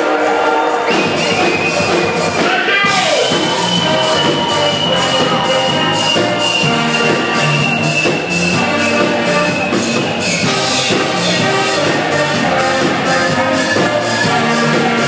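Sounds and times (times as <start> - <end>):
live band with horns and drums: 0.0 - 15.0.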